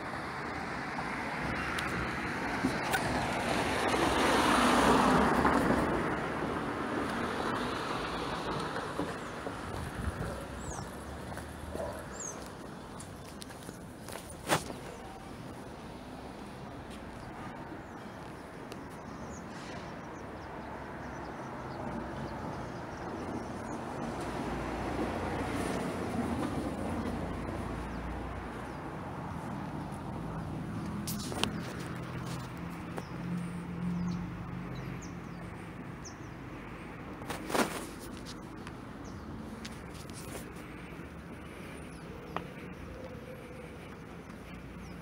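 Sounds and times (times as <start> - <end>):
car passing: 0.0 - 18.0, 19.4 - 45.0
street traffic rumble: 0.0 - 45.0
vehicle approaching: 0.0 - 45.0.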